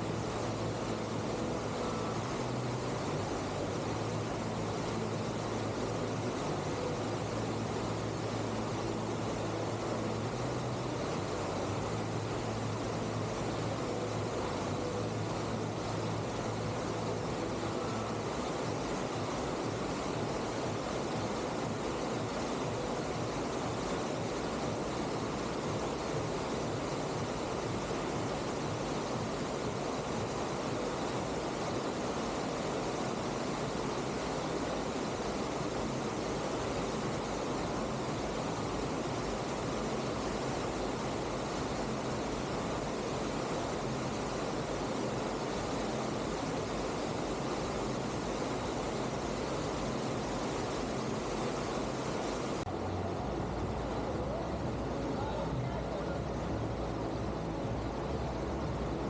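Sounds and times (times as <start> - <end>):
rushing water roar: 0.0 - 59.0.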